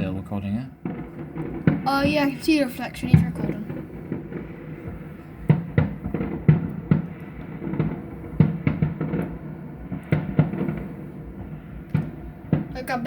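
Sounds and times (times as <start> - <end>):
muffled firework booms: 0.0 - 13.0.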